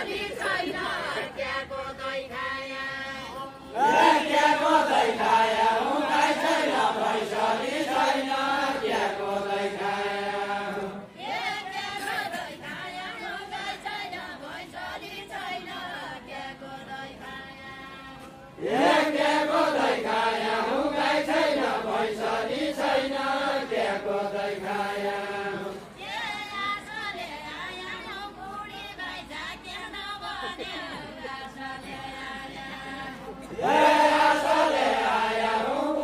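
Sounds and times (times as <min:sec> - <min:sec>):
men singing unaccompanied: 0:00.0 - 0:36.0.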